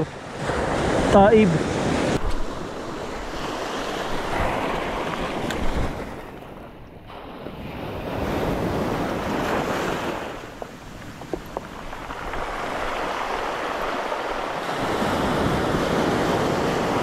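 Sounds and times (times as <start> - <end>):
wind buffeting microphone: 0.0 - 17.0
surf breaking on stony beach: 0.4 - 17.0.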